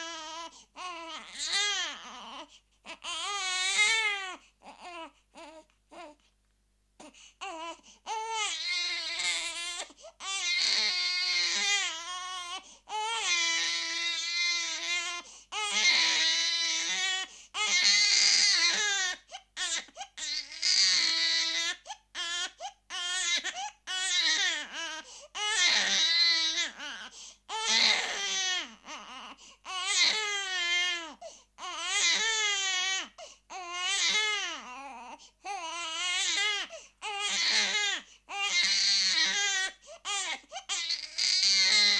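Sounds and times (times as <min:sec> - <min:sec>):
baby crying: 0:00.0 - 0:06.2, 0:07.0 - 0:41.9.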